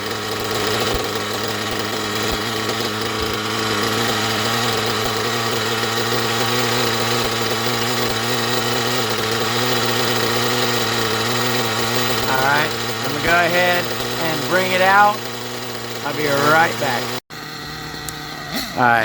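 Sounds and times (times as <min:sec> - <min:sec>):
nitro engine idling: 0:00.0 - 0:19.0.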